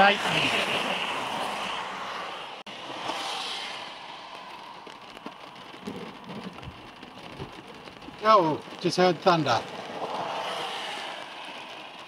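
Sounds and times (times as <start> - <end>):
rain and hail on car roof: 0.0 - 12.0
tyre hiss on wet road: 0.0 - 12.0.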